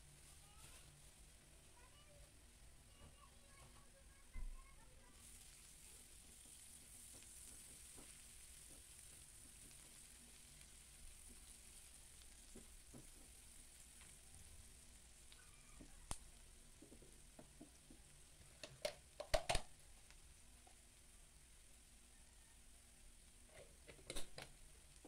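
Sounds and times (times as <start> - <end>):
onion and garlic sizzling in pan: 0.0 - 25.0.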